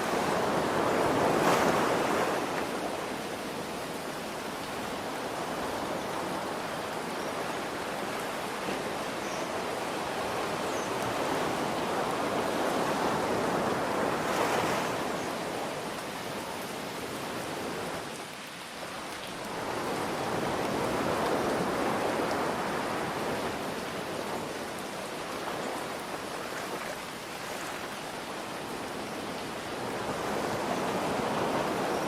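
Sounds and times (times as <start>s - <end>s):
ocean waves washing in: 0.0s - 32.0s
rain hiss: 0.0s - 32.0s.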